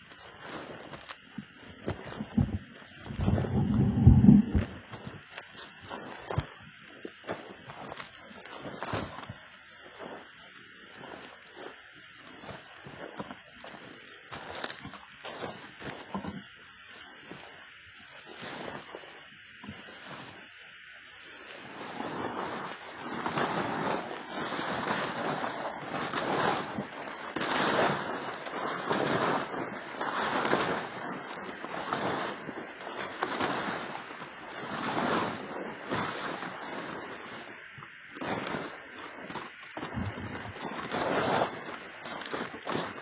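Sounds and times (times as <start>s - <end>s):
footsteps through grass and dry leaves: 0.0s - 43.0s.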